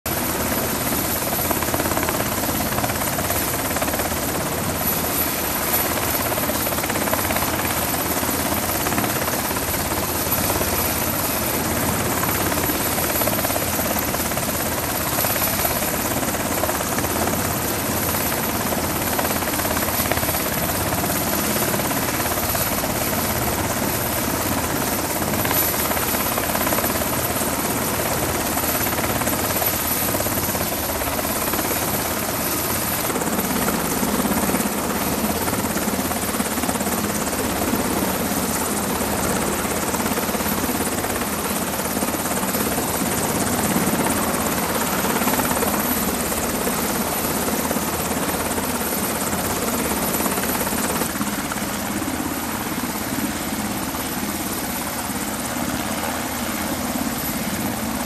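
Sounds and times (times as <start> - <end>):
helicopter engines and rotor: 0.1 - 58.0.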